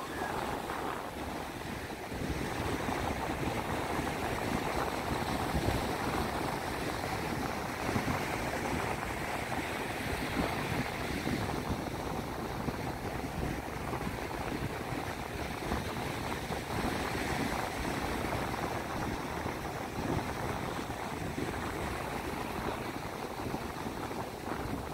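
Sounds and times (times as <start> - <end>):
sea surf on a beach: 0.0 - 24.9
wind buffeting microphone: 0.0 - 24.9.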